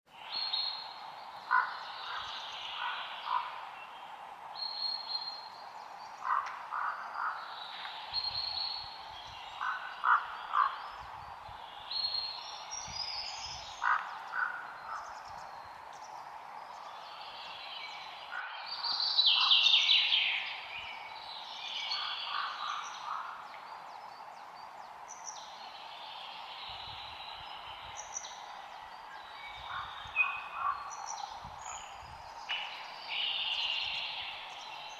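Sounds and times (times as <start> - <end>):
background hum of wildlife: 0.1 - 34.9
birds chirping and trilling: 0.1 - 34.9.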